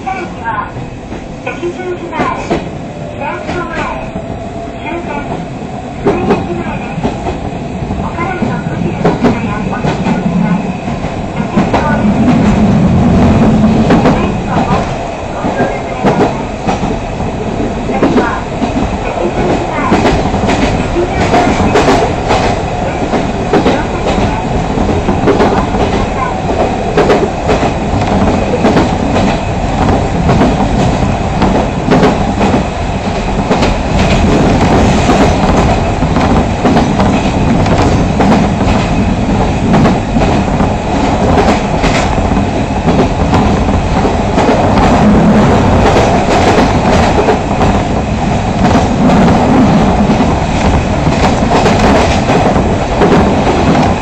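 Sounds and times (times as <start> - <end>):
rumble of wheels on rails: 0.0 - 54.0.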